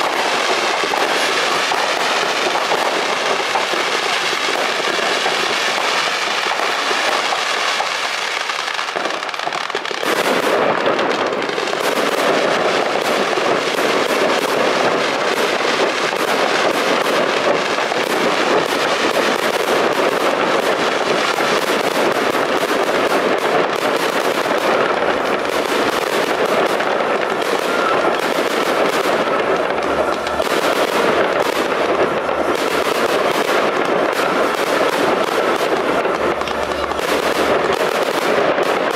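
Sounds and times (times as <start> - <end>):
fireworks crackling and banging: 0.0 - 38.9.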